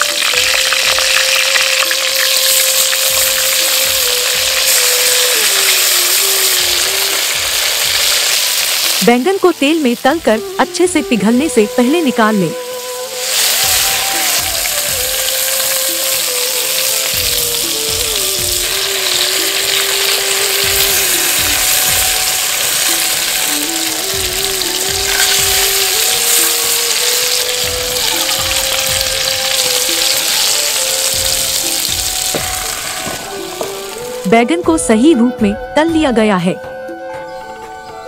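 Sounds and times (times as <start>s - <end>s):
vegetables sizzling in hot oil: 0.0s - 34.9s
background music melody: 0.0s - 38.0s.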